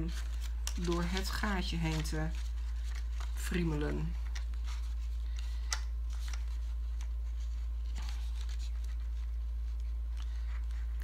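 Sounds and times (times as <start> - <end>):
cardstock rustling and clicks: 0.0 - 11.0
steady low hum: 0.0 - 11.0.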